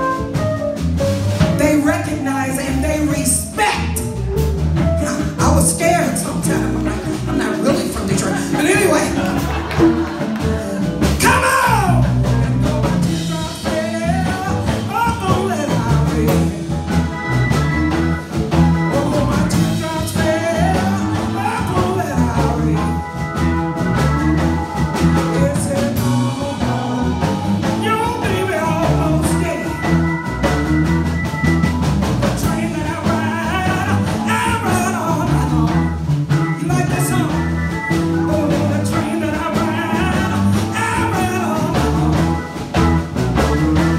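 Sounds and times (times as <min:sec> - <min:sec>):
live band with drums and bass: 0:00.0 - 0:43.9.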